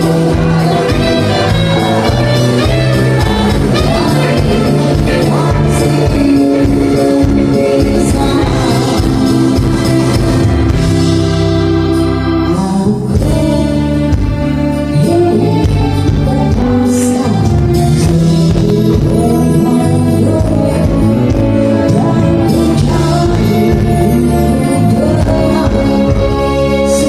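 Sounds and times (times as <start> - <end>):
person singing: 0.0 - 10.8, 12.1 - 27.0
live band playing: 0.0 - 27.0.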